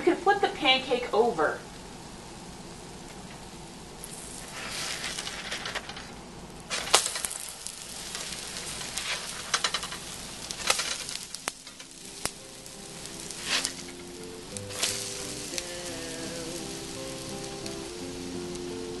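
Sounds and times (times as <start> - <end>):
pancakes sizzling in a pan: 1.9 - 19.0.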